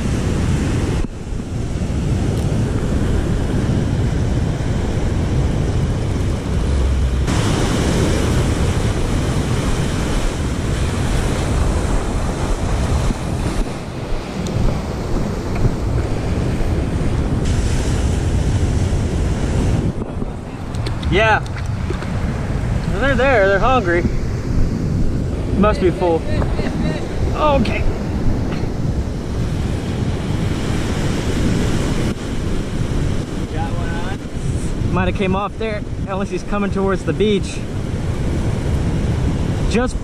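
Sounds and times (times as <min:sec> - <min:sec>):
ocean surf breaking: 0:00.0 - 0:40.0
wind buffeting microphone: 0:00.0 - 0:40.0.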